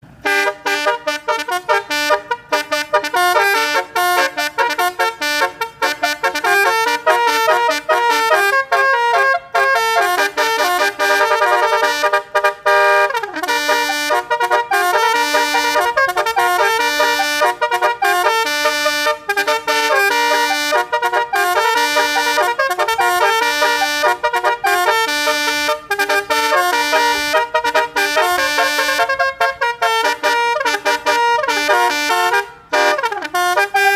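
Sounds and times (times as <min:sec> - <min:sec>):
musical vehicle horn tune: 0:00.0 - 0:33.9.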